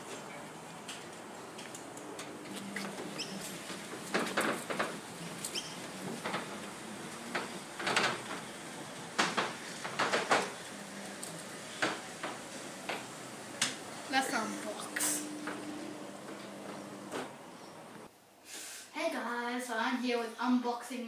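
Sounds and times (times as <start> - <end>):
metal roller door rattling: 0.0 - 18.1.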